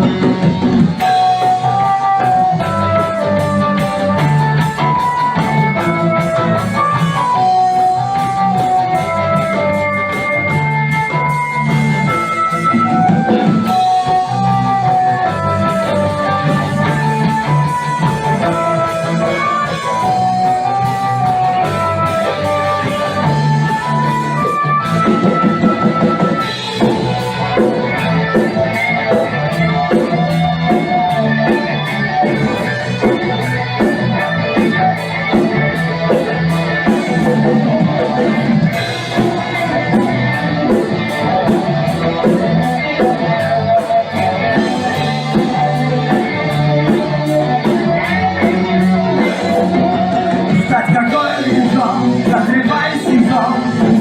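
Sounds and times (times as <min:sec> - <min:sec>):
drum kit beat: 0:00.0 - 0:54.0
guitar: 0:00.0 - 0:54.0.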